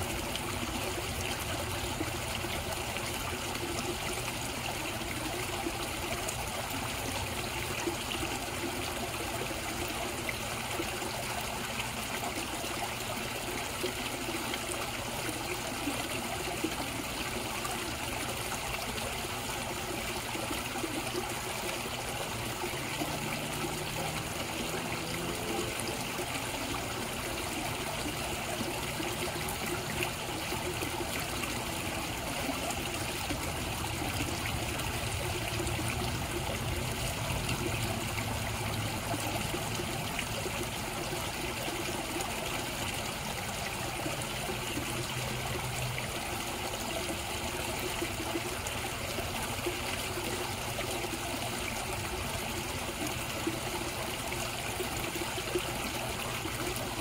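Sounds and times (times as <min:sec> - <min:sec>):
pond water trickling and splashing: 0:00.0 - 0:57.0.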